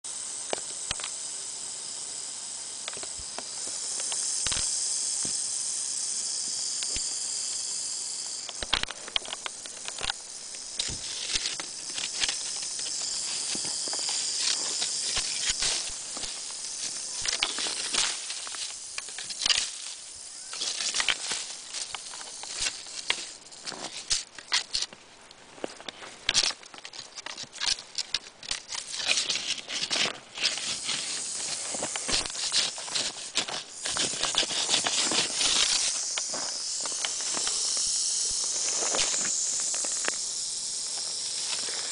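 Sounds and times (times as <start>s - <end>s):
rattlesnake rattle buzzing: 0.1s - 41.9s
rustles of dry grass: 0.4s - 41.9s.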